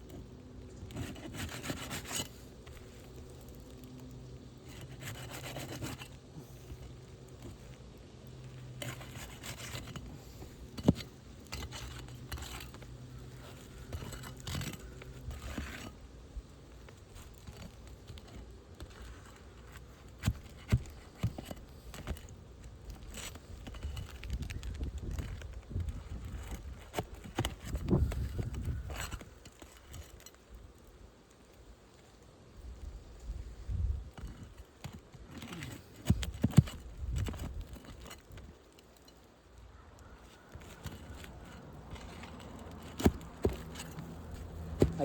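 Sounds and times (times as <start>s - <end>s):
rough scraping of shingles: 0.0s - 45.0s.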